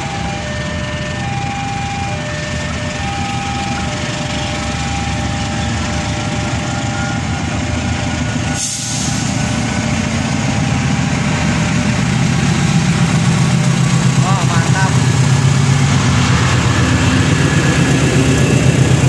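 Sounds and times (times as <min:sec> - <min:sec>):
locomotive diesel engine pulsing: 0:00.0 - 0:19.0.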